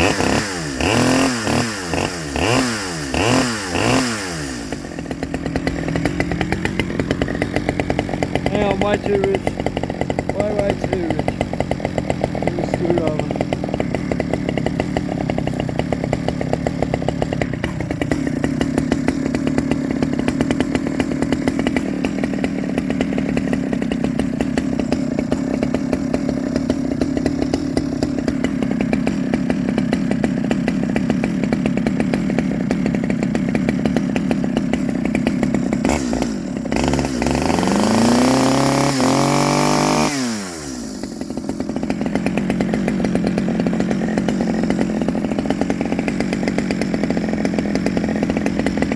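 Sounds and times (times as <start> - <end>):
chainsaw engine idling and revving: 0.0 - 48.9.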